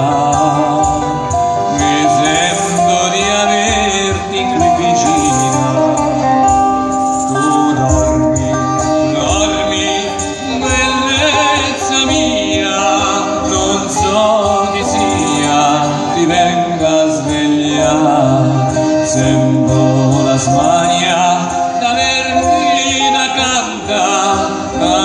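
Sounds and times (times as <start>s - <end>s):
accordion: 0.0s - 25.0s
guitar: 0.0s - 25.0s
person singing: 0.0s - 25.0s.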